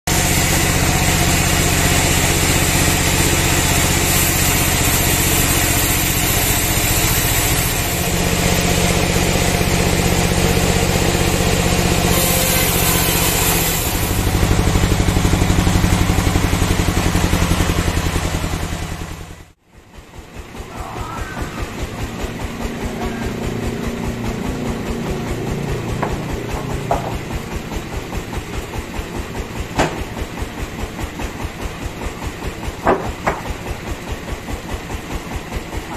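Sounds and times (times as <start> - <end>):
band sawmill cutting log: 0.1 - 19.1, 20.6 - 35.9.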